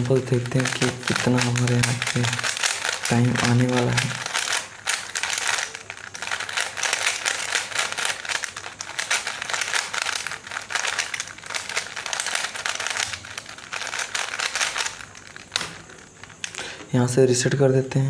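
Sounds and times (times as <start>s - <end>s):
puzzle cube layers clicking: 0.0s - 16.5s.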